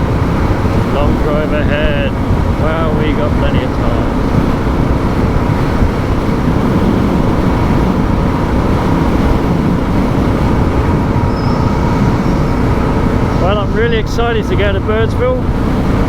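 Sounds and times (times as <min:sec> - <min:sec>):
motorcycle engine cruising: 0:00.0 - 0:16.0
road and wind rush: 0:00.0 - 0:16.0.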